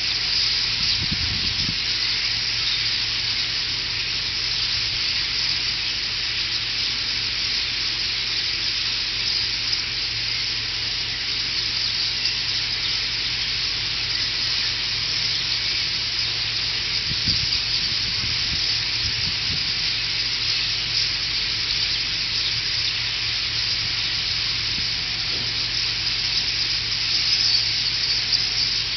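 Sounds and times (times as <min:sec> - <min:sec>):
flock of birds calling: 0:00.0 - 0:28.9.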